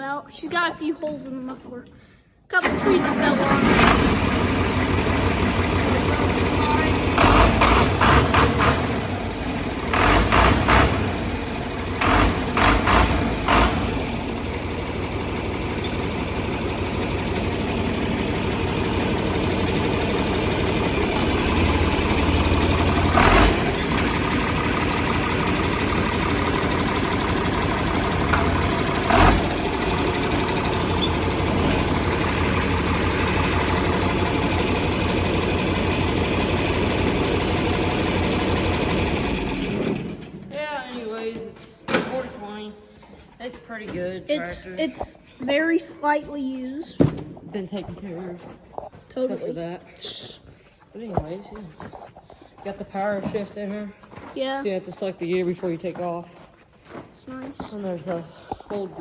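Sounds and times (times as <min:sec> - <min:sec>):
tractor engine idling: 0:02.5 - 0:59.0.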